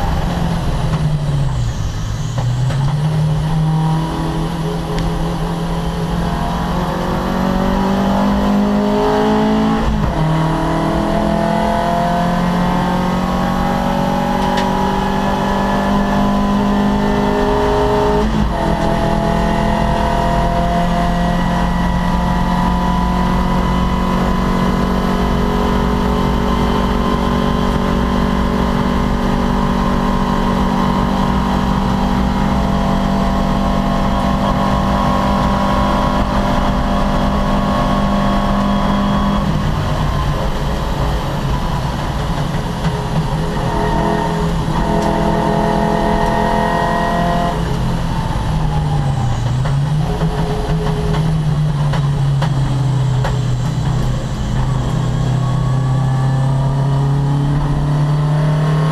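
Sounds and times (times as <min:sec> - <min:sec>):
race car engine accelerating: 0:00.0 - 0:58.9.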